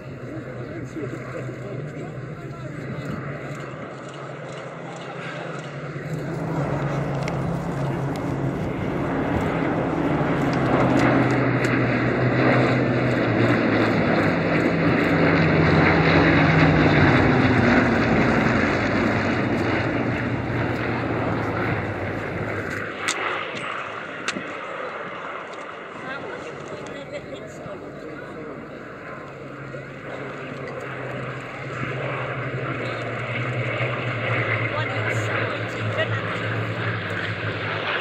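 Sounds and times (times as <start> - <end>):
aircraft engines droning: 0.0 - 38.0.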